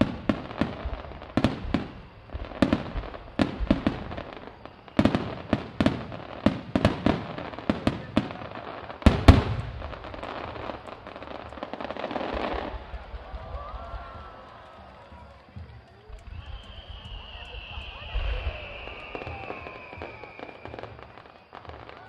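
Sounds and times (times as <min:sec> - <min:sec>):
firework crackling: 0:00.0 - 0:22.0.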